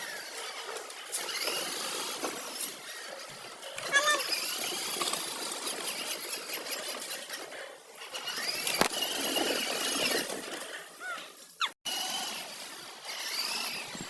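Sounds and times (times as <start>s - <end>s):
toy car motor whirring: 0.0s - 14.0s.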